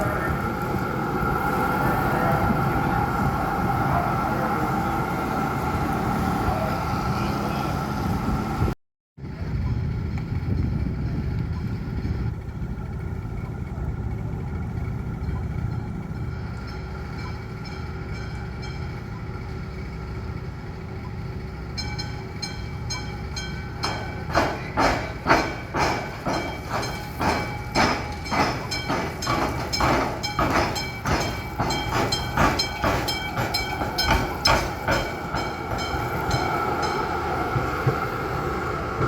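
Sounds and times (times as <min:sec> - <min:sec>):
tram wheels clacking over tracks: 0:00.0 - 0:07.3, 0:09.3 - 0:39.0.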